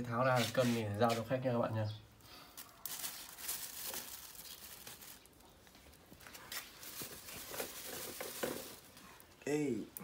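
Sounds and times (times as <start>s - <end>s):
rustling and scraping of handling: 0.0s - 9.8s.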